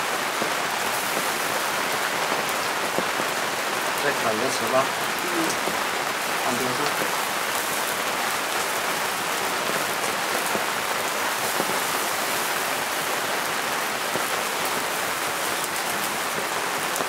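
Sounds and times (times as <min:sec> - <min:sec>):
meat sizzling on charcoal grill: 0:00.0 - 0:17.0.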